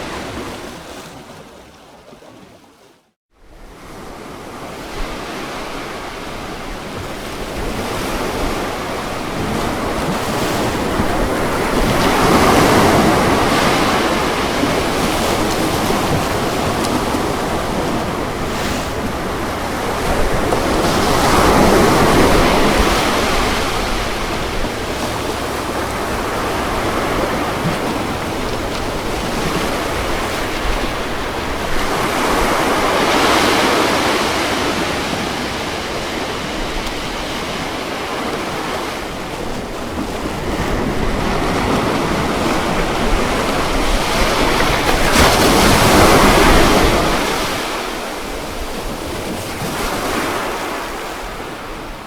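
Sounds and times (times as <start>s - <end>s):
ocean waves breaking on shore: 0.0s - 52.0s.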